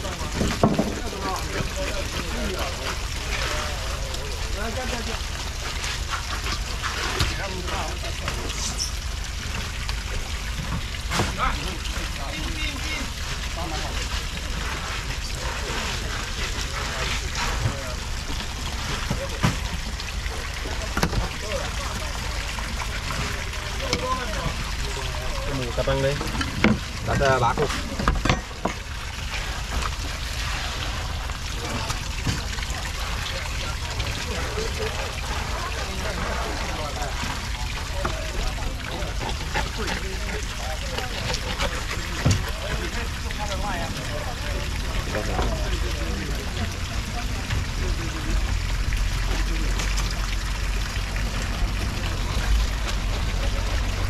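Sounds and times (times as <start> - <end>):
seawater splashing: 0.0 - 54.0
water drips and spatters: 0.0 - 54.0.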